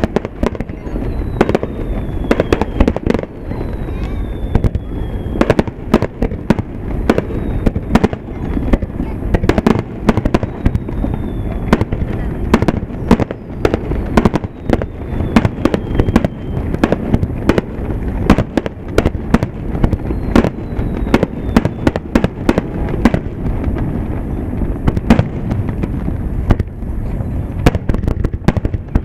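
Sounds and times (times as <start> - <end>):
firework shells booming: 0.0 - 29.0.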